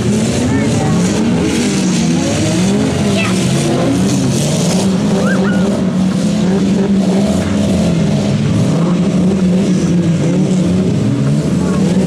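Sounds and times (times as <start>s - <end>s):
car engines running hard: 0.0s - 12.0s.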